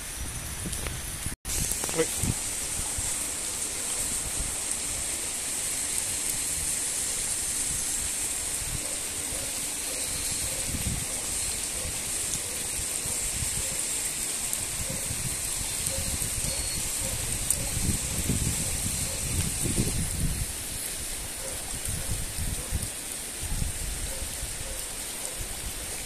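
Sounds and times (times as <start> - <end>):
heavy rain falling: 0.0 - 26.0
rainwater running in channel: 0.0 - 26.0.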